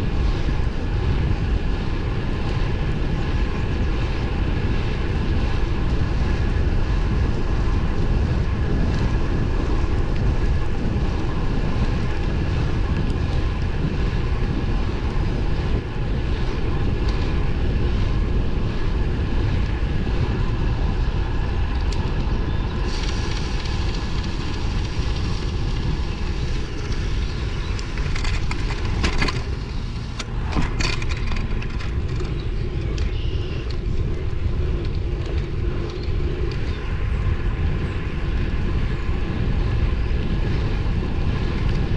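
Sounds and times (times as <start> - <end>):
wind rush and road rumble: 0.0 - 41.9.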